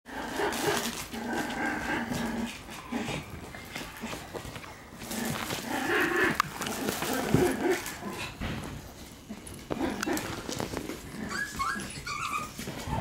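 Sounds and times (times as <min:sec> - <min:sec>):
puppy whining growls: 0:00.1 - 0:08.4, 0:09.3 - 0:13.0.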